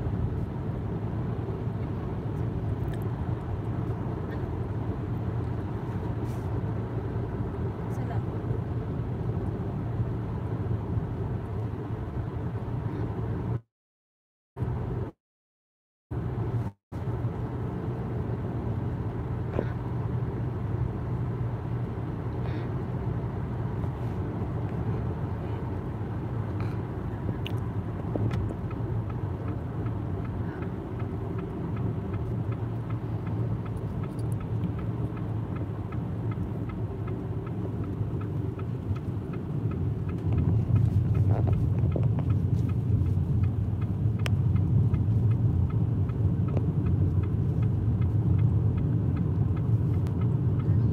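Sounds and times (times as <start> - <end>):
car engine and road noise: 0.0 - 13.7, 14.6 - 15.2, 16.1 - 50.9.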